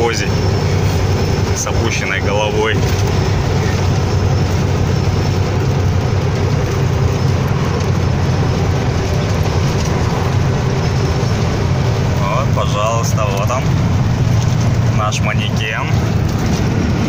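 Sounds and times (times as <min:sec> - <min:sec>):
diesel engine droning: 0:00.0 - 0:17.0
tyre and road noise: 0:00.0 - 0:17.0.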